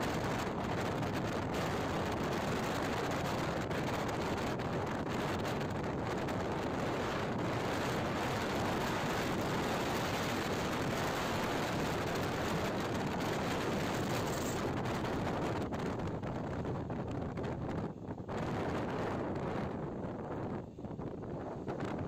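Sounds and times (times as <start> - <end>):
road noise: 0.0 - 22.0
wind rushing on microphone: 0.0 - 22.0.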